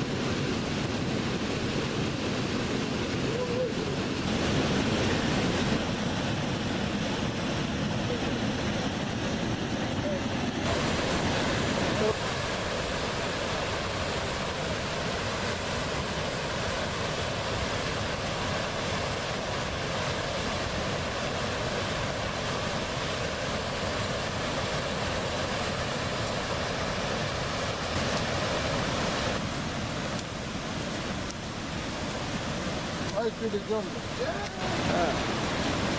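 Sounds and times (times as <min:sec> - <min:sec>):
river water rushing: 0:00.0 - 0:35.9.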